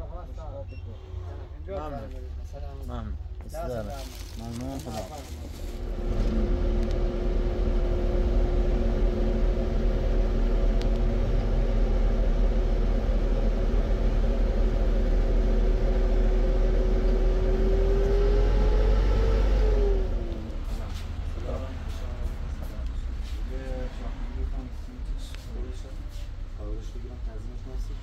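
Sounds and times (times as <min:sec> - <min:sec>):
motor vehicle rumbling: 0:00.0 - 0:28.0.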